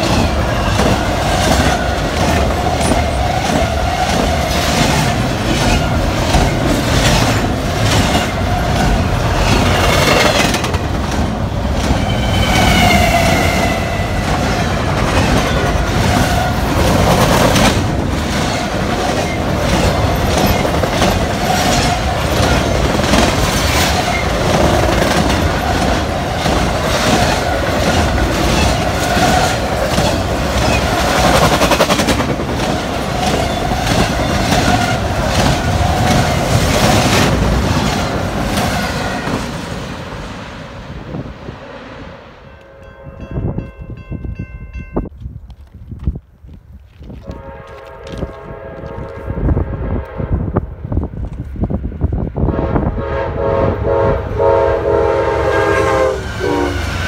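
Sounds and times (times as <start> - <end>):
freight train rolling past: 0.0 - 45.8, 47.2 - 57.0.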